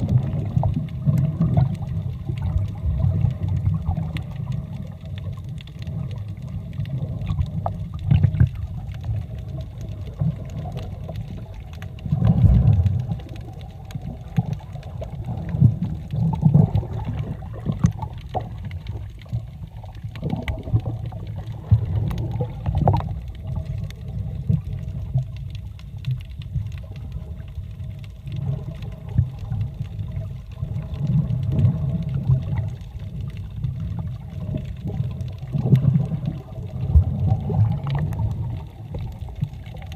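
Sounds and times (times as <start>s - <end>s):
underwater water rumble: 0.0s - 39.9s.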